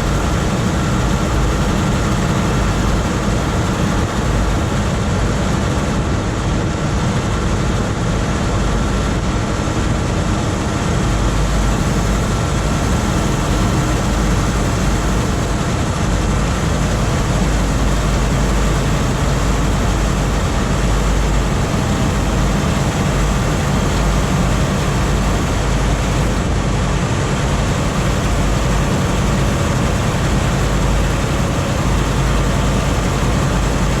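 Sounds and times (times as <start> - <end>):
truck diesel engine running: 0.0 - 6.2, 8.0 - 34.0.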